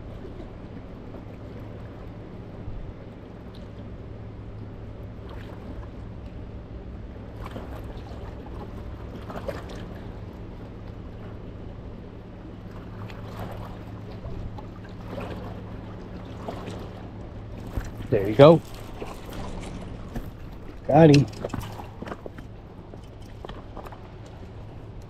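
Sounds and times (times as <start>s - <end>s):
steady low hum: 0.0s - 25.0s
water: 0.0s - 25.0s
wind: 0.0s - 25.0s.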